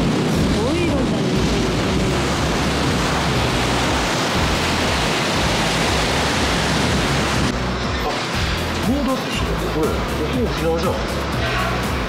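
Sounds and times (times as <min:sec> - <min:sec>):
sea water rushing along hull: 0:00.0 - 0:12.0.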